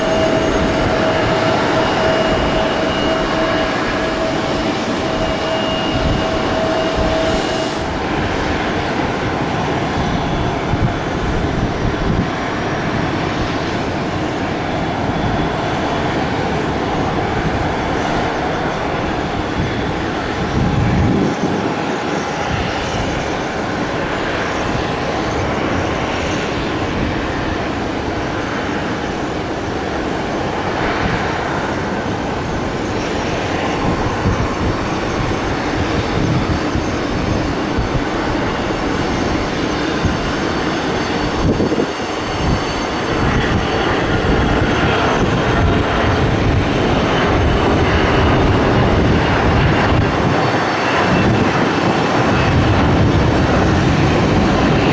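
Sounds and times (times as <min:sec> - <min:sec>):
airliner engines roaring: 0:00.0 - 0:54.9
faint high engine whine: 0:00.0 - 0:54.9.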